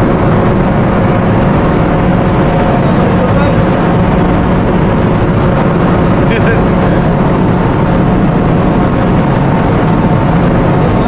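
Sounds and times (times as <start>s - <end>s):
ship machinery droning: 0.0s - 11.0s.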